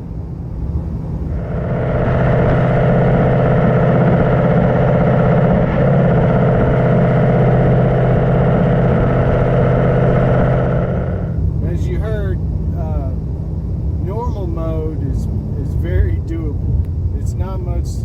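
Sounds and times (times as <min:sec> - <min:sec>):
car exhaust drone from inside: 0:00.0 - 0:18.0.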